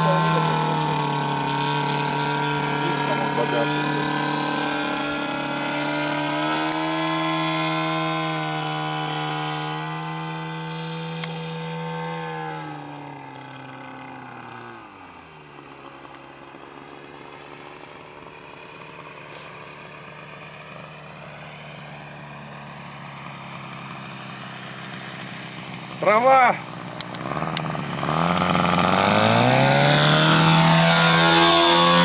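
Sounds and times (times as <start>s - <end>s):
model plane engine buzzing: 0.0s - 32.0s.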